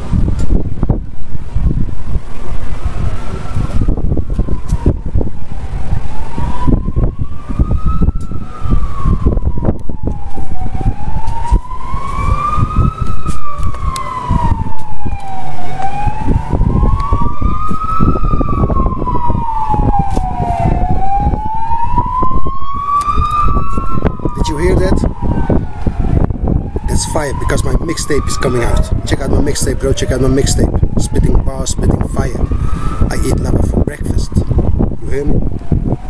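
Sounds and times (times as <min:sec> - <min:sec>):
wind buffeting microphone: 0:00.0 - 0:36.0
siren wailing: 0:02.9 - 0:36.0.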